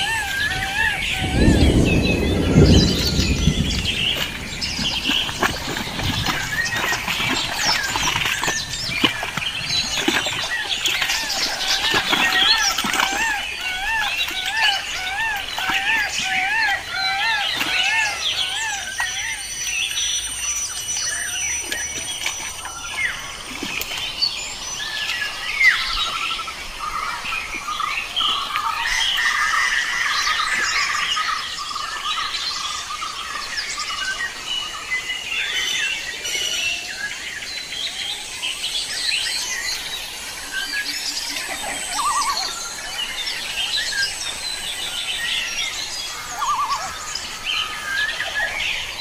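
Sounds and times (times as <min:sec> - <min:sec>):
birds chirping and calling: 0:00.0 - 0:49.0.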